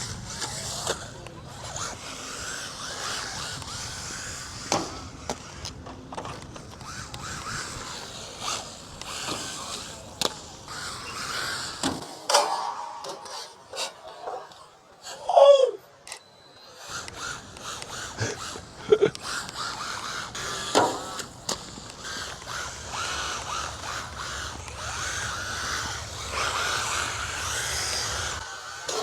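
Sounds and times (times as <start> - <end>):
toy car motor whining: 0.0 - 12.1, 16.1 - 29.0.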